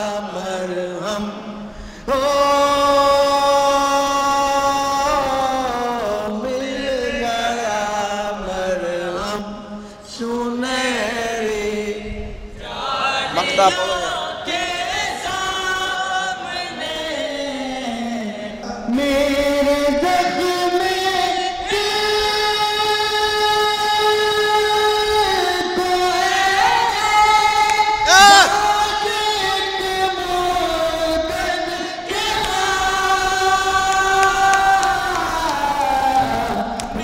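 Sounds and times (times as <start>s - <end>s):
men chanting into a microphone: 0.0s - 37.0s.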